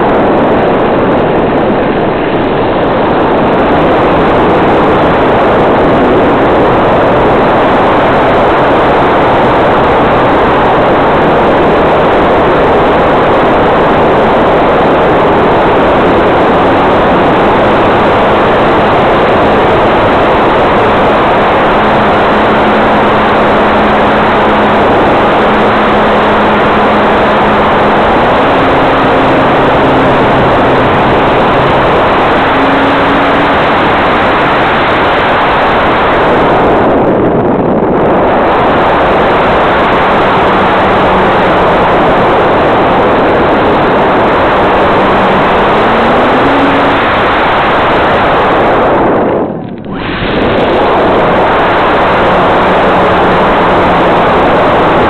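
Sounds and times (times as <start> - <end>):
wind rushing over camera: 0.0 - 55.0
model airplane motor hum: 0.7 - 47.4.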